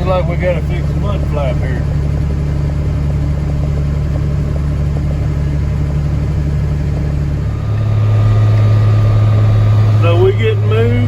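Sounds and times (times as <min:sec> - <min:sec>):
farm vehicle engine running: 0:00.0 - 0:11.0.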